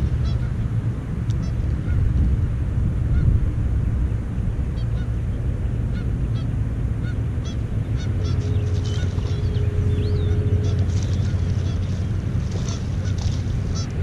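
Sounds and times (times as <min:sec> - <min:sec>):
birds honking calls: 0:00.0 - 0:02.1, 0:04.0 - 0:14.0
steady low rumble: 0:00.0 - 0:14.0.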